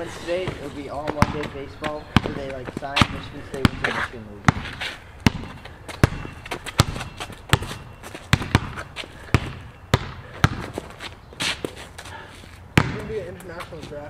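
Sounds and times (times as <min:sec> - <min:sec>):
basketball bouncing on concrete: 0:00.4 - 0:10.9, 0:12.7 - 0:13.8.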